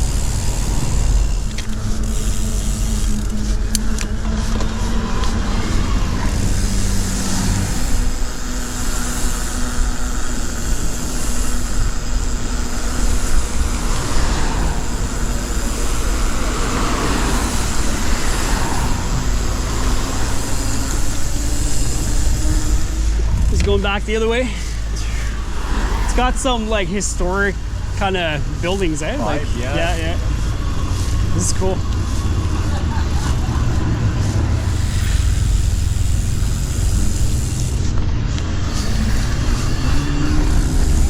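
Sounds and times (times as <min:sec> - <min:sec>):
low rumble on microphone: 0:00.0 - 0:39.7
bicycle tyre noise: 0:00.0 - 0:41.0
rushing wind: 0:00.0 - 0:41.0.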